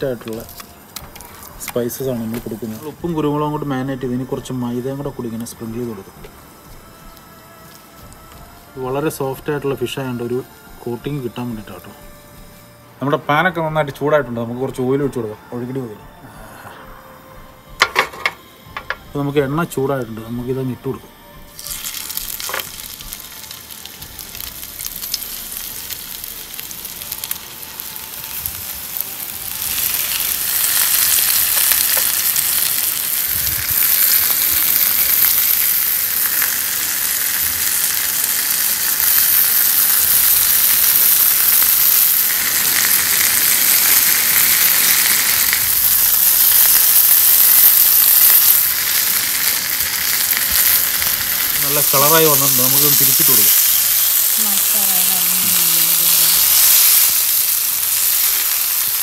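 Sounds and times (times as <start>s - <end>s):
fish sizzling in hot oil: 0.0s - 12.6s, 20.4s - 59.0s.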